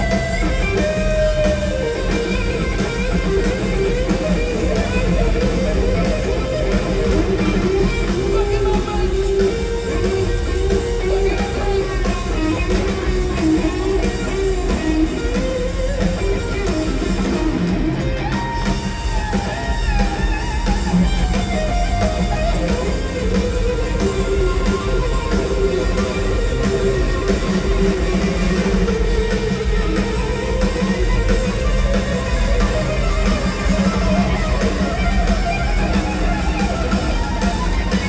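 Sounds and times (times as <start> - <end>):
heavy low end rock music: 0.0 - 38.0.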